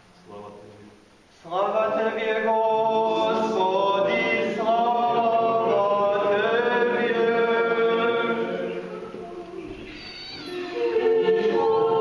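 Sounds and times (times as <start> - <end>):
voices singing liturgical chant: 1.4 - 12.0.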